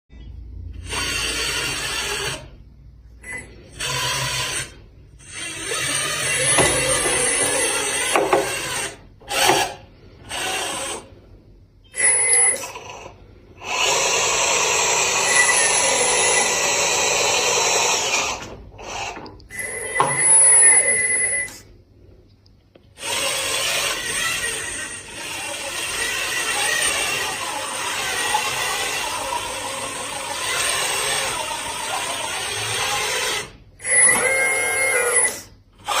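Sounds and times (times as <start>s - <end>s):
toy truck motor whirring: 0.7s - 11.2s, 11.9s - 21.7s, 23.0s - 36.0s.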